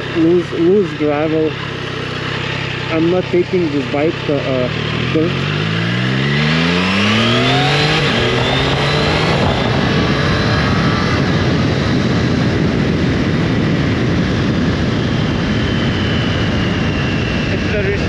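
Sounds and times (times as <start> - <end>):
motorcycle engine accelerating: 0.0 - 18.0
wind rushing on microphone: 2.4 - 18.0.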